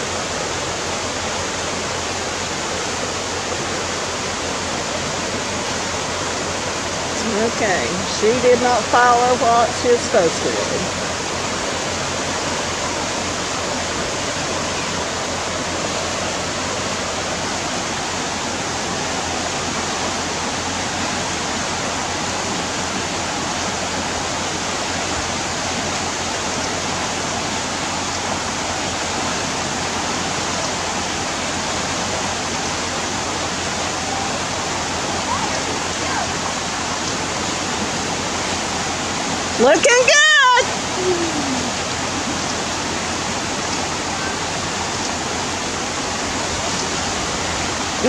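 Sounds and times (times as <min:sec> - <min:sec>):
river rapids roaring: 0:00.0 - 0:48.0.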